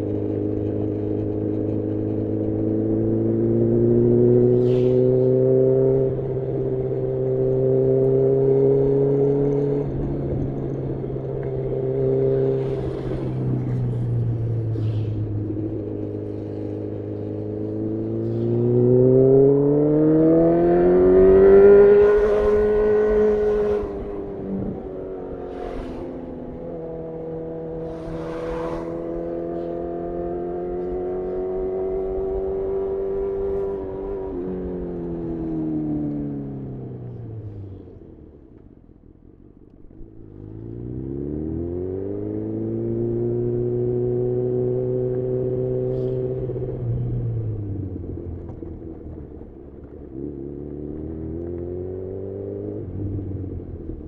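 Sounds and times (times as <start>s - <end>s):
motorcycle engine accelerating: 0.0s - 39.0s, 39.8s - 54.0s.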